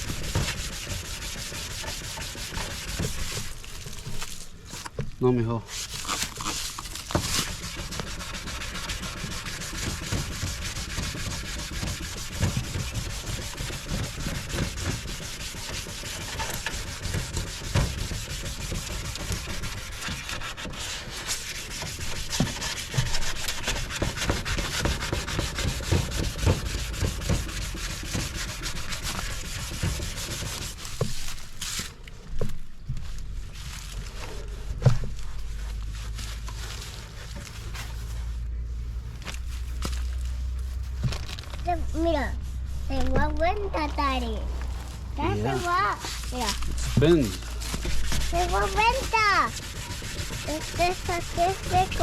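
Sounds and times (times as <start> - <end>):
sandpaper scrubbing plastic: 0.0 - 4.9, 5.7 - 32.0, 38.9 - 52.0.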